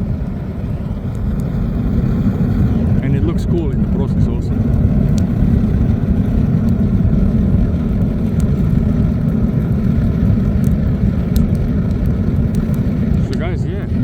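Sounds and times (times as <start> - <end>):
fire crackling: 0.0 - 14.0
furnace blower roaring: 0.0 - 14.0.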